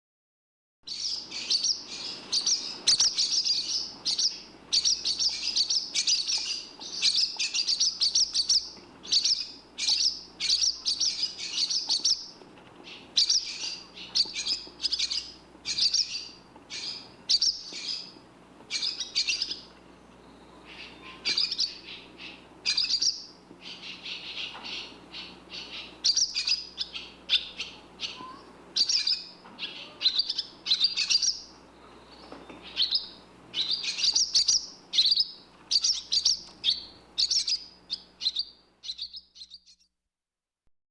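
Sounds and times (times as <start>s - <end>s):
barn swallow twittering: 0.9s - 39.8s.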